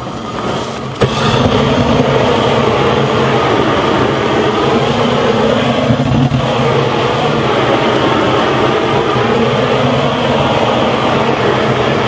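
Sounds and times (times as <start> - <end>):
propane torch flame hissing: 0.0 - 12.0.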